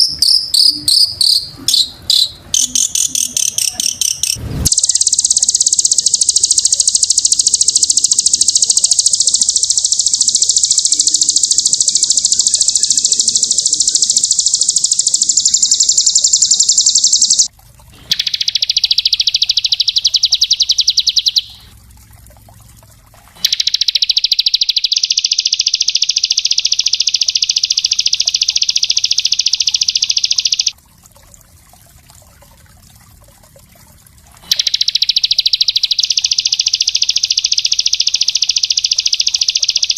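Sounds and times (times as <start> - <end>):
songbird trilling: 0.0 - 17.5, 18.1 - 21.6, 23.4 - 30.7, 34.5 - 39.9.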